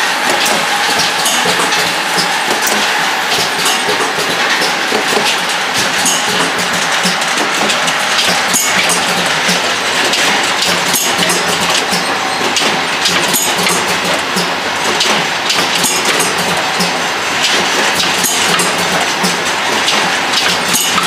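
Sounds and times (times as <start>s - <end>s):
machine mechanical din: 0.0s - 21.0s.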